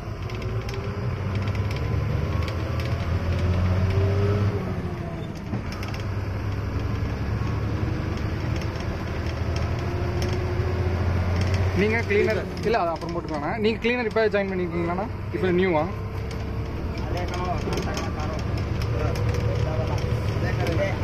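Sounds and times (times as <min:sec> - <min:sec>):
cab rattles: 0:00.0 - 0:04.4, 0:05.2 - 0:21.0
truck diesel engine drone: 0:00.0 - 0:21.0.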